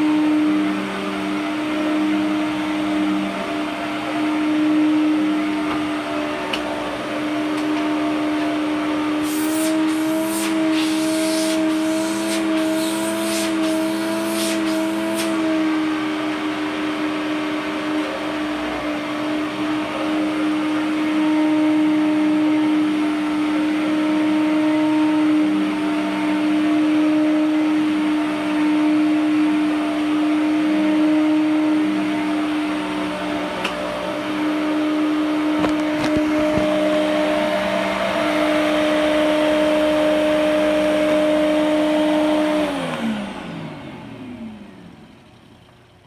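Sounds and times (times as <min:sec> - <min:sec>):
vacuum cleaner motor whining: 0:00.0 - 0:46.0.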